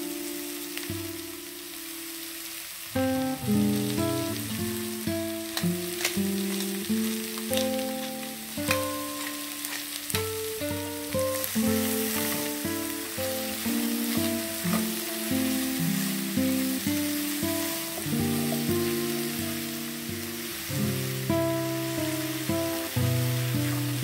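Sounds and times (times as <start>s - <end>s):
vegetables sizzling in a frying pan: 0.0s - 24.0s
background music melody: 3.0s - 24.0s.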